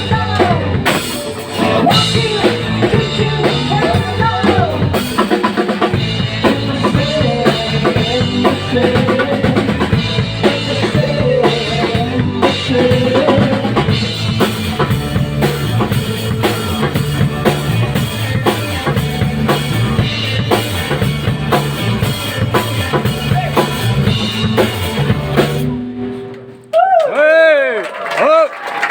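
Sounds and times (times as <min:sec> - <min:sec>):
drum kit beat: 0:00.0 - 0:26.4
band playing loud music: 0:00.0 - 0:26.6
low bass line: 0:01.7 - 0:05.0, 0:06.0 - 0:26.0.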